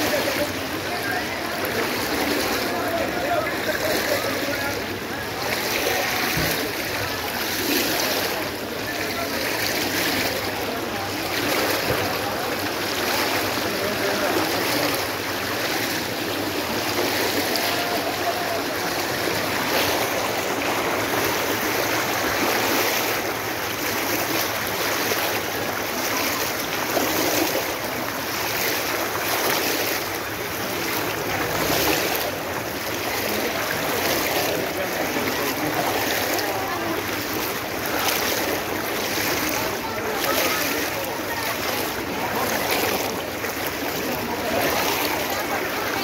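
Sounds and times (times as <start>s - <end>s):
floodwater rushing down street: 0.0s - 46.0s.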